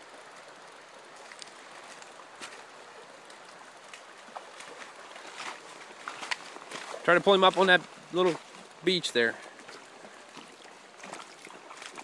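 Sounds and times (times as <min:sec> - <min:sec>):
river water flowing: 0:00.0 - 0:12.0
feet wading in water: 0:01.1 - 0:12.0.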